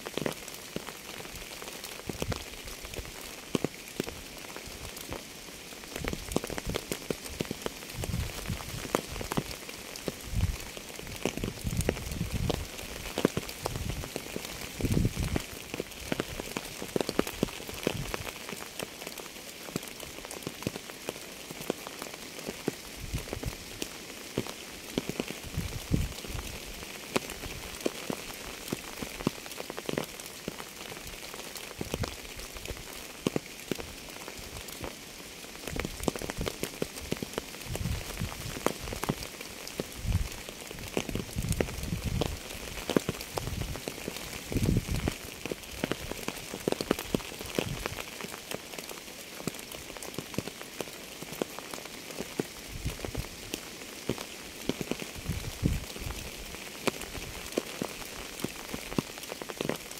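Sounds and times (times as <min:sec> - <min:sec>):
rain drops hitting a surface: 0:00.0 - 0:59.9
rain hiss: 0:00.0 - 0:59.9.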